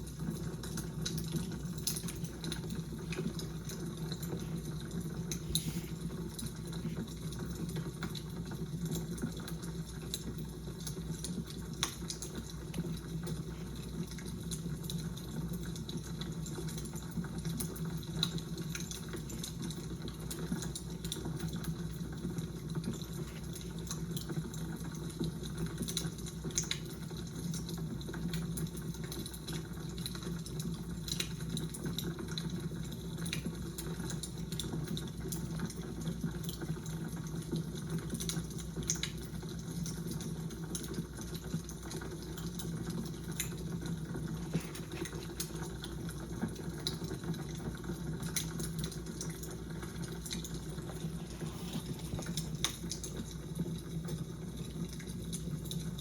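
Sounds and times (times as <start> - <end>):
fire crackling: 0.0 - 27.7, 28.4 - 56.0.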